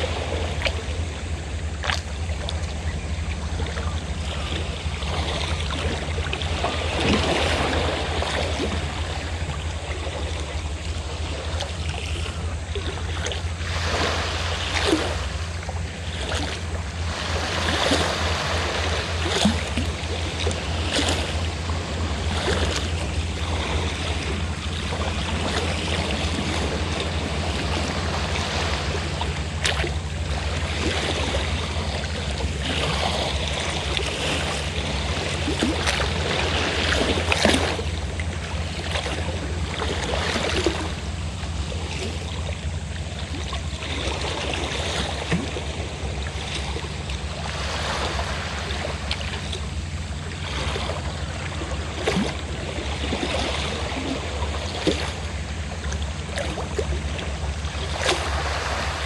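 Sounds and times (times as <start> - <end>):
boat engine drone: 0.0 - 59.0
sea waves washing: 0.0 - 59.0
sharp splashes: 0.0 - 59.0.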